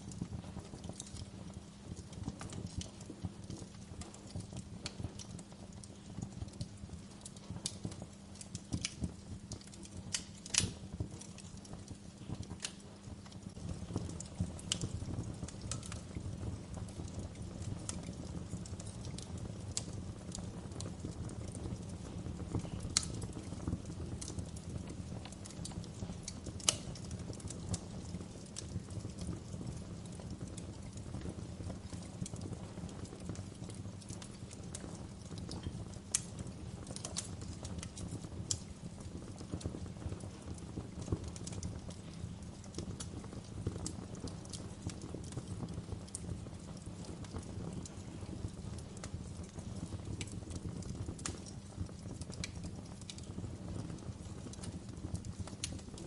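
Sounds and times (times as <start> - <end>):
low rumble of flame: 0.0 - 56.0
sharp fire pops: 0.0 - 56.0
wood fire crackling: 0.0 - 56.0.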